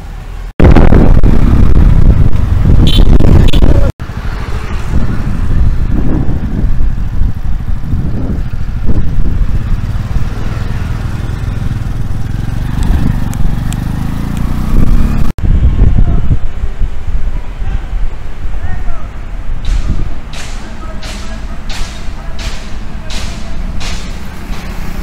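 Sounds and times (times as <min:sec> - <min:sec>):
motorcycles passing: 0:00.0 - 0:25.0
road traffic rumble: 0:00.0 - 0:25.0.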